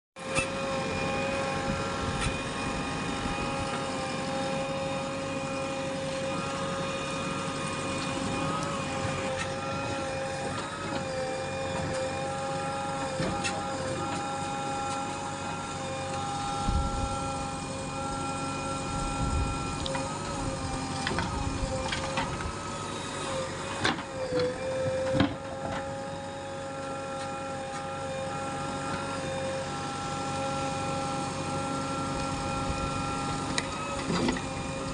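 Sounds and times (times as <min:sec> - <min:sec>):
backhoe engine and hydraulic whine: 0:00.2 - 0:34.9.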